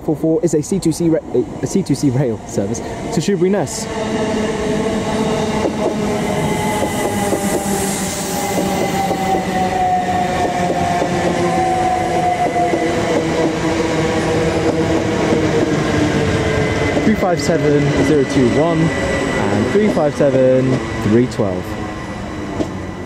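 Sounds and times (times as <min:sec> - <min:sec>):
train wheels rumbling: 0:00.0 - 0:23.0
train traction motors whining: 0:01.0 - 0:23.0.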